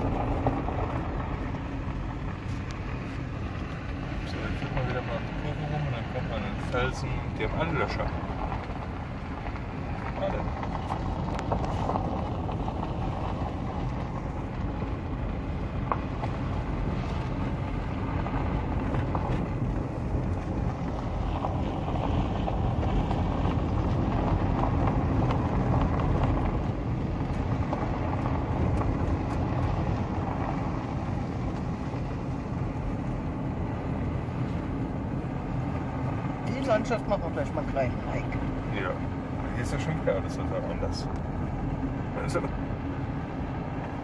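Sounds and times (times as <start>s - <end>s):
car rumble on gravel road: 0.0s - 44.0s.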